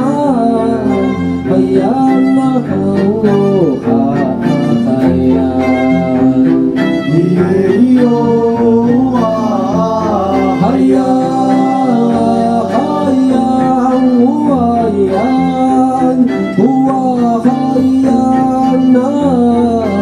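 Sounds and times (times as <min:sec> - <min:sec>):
cello: 0:00.0 - 0:20.0
double bass: 0:00.0 - 0:20.0
guitar: 0:00.0 - 0:20.0
man singing: 0:00.0 - 0:20.0
violin: 0:00.0 - 0:20.0.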